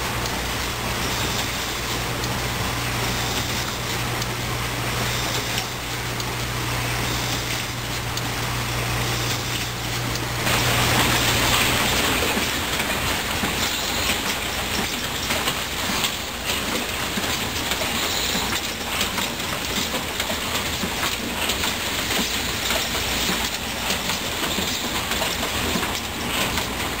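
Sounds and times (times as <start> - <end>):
machines clattering and clicking: 0.0 - 27.0.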